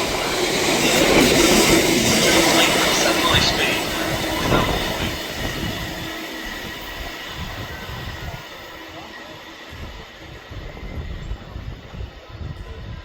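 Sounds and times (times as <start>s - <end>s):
passing train: 0.0s - 13.0s.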